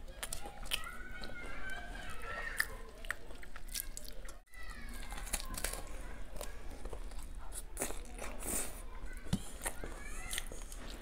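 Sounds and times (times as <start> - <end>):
crunching and chewing: 0.0 - 11.0
faint children's voices: 0.0 - 11.0.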